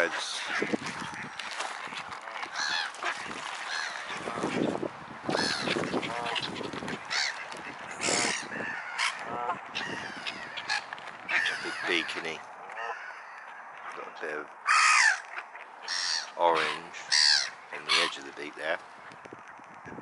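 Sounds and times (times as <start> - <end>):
waterbirds honking: 0.0 - 20.0.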